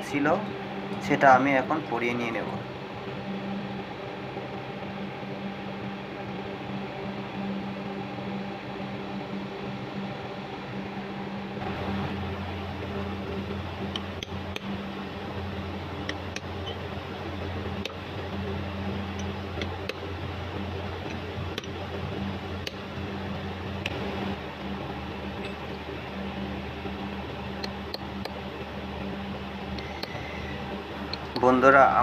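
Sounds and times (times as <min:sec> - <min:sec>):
deeper hum: 0:00.0 - 0:32.0
steady machine hum: 0:00.0 - 0:32.0.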